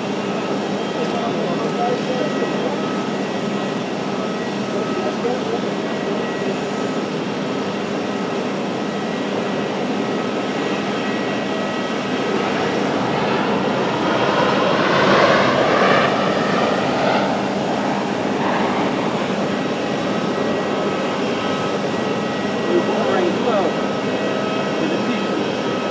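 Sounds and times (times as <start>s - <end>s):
airliner engines rushing: 0.0s - 25.9s.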